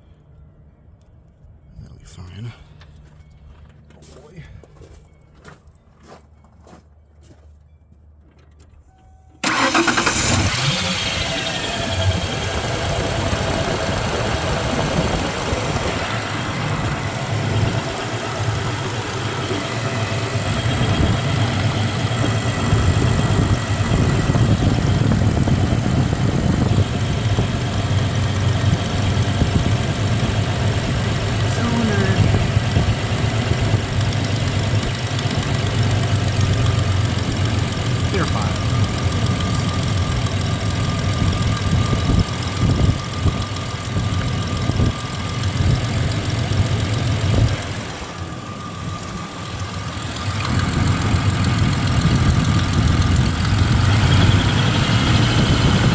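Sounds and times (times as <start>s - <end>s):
misfiring engine idling: 9.4s - 55.9s.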